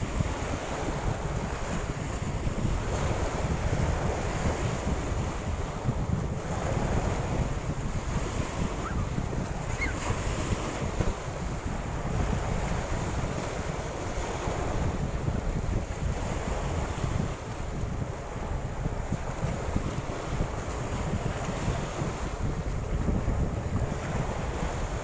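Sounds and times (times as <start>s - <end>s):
small waves washing ashore: 0.0s - 25.0s
wind buffeting microphone: 0.0s - 25.0s.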